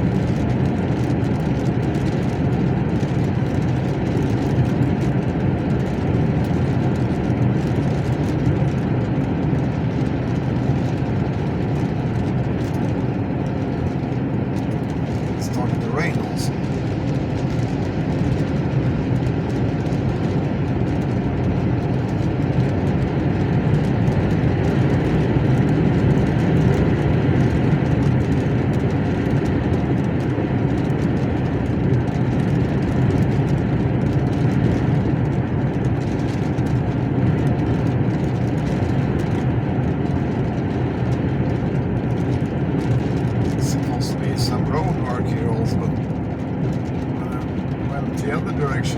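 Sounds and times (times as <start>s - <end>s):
truck engine and road noise: 0.0s - 48.9s.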